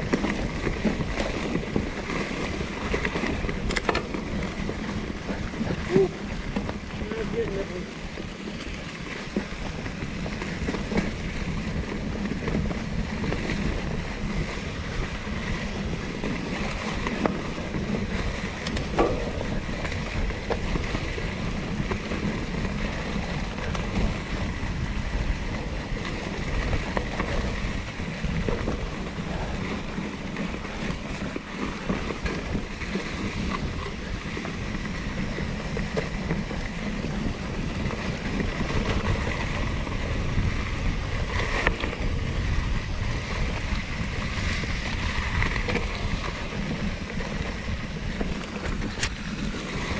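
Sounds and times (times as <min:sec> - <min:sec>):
bike knocks and rattles: 0:00.0 - 0:07.4, 0:08.1 - 0:49.9
bike tyres rolling on dirt: 0:00.0 - 0:49.9
wind on microphone: 0:00.0 - 0:49.9.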